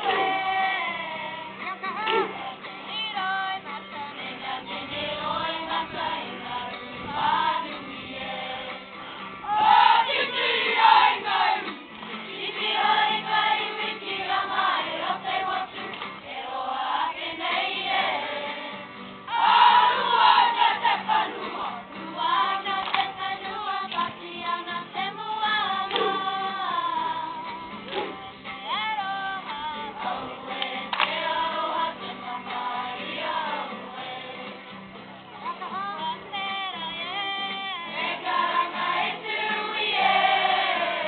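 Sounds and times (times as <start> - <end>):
children's choir singing: 0.0 - 34.6, 37.0 - 41.0.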